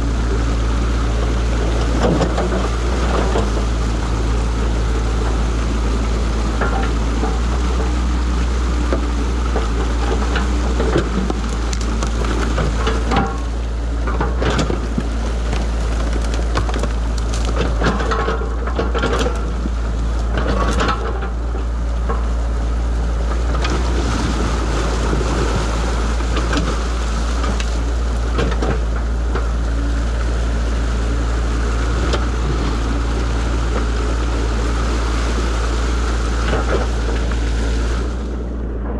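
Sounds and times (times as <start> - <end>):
diesel engine running: 0.0 - 38.9
muddy water rushing: 0.0 - 38.9.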